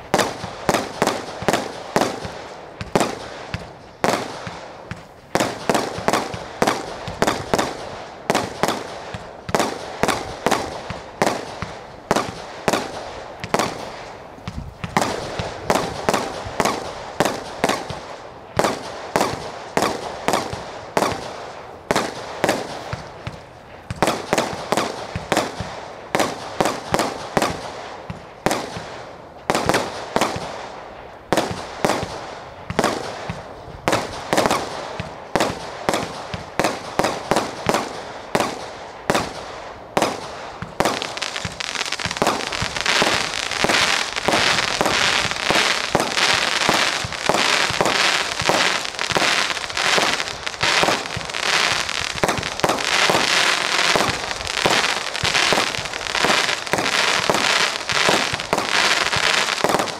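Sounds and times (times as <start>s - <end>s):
fireworks banging: 0.0s - 59.9s
fireworks crackling: 0.0s - 59.9s.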